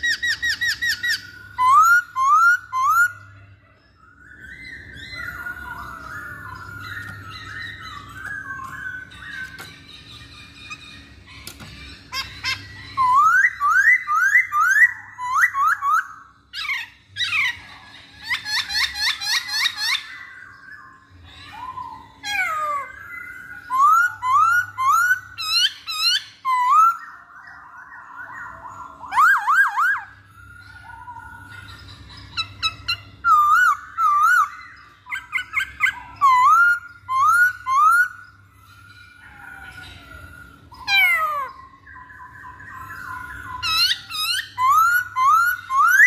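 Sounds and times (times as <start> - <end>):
bird high-pitched chattering: 0.0 - 46.0.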